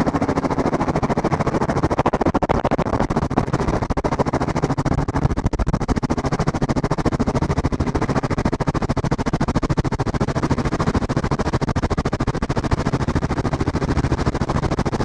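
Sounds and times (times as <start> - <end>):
helicopter rotor chopping: 0.0 - 15.0
wind buffeting microphone: 0.0 - 15.0.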